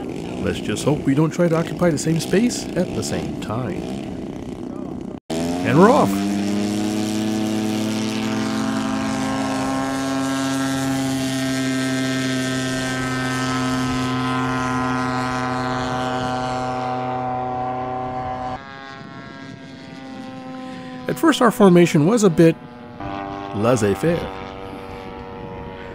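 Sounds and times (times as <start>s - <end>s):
model plane engine at full throttle: 0.0s - 25.9s.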